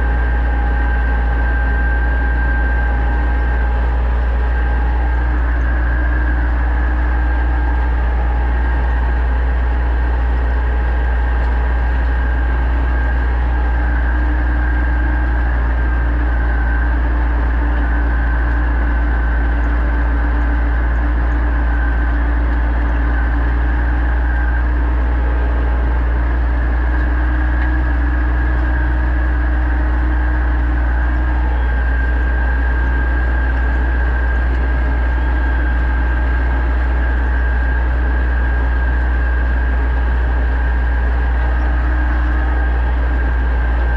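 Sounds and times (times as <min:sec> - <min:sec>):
tractor diesel engine ploughing: 0:00.0 - 0:43.9.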